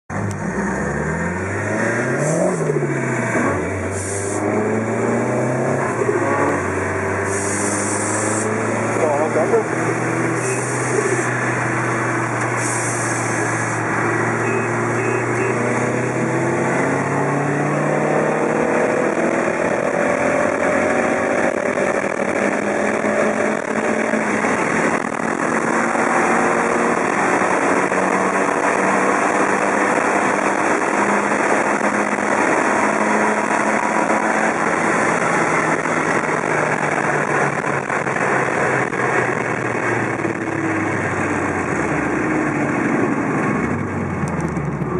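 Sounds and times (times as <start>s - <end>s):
road noise: 0.0s - 44.9s
turbocharged car engine accelerating: 0.1s - 44.9s.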